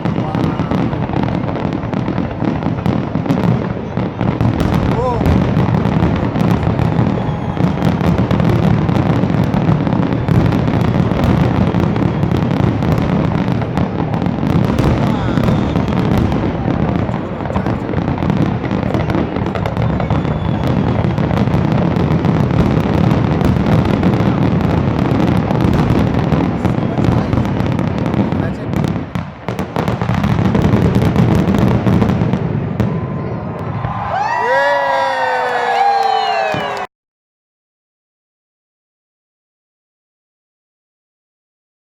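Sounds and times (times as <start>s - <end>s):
crowd voices: 0.0s - 36.9s
fireworks booming and crackling: 0.0s - 36.9s.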